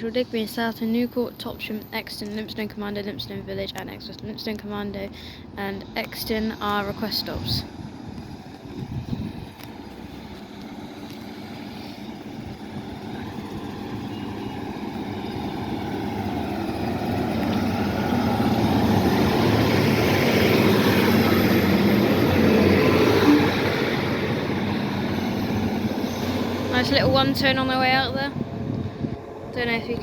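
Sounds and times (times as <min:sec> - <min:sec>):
diesel train pulling away: 0:04.9 - 0:30.0.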